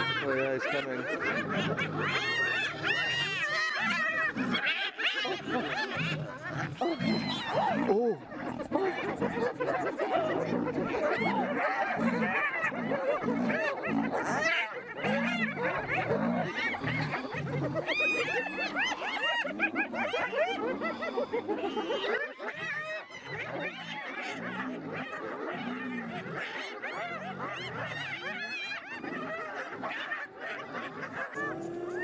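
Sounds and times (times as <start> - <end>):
hyenas giggling: 0.0 - 32.0.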